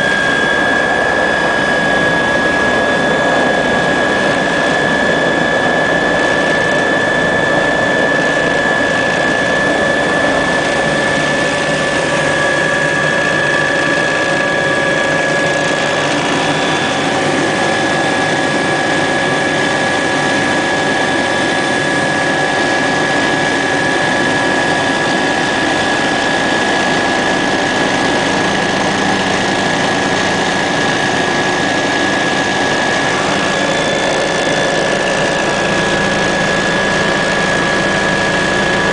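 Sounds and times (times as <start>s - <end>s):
helicopter turbine engine running: 0.0s - 38.9s
high steady whine: 0.0s - 38.9s.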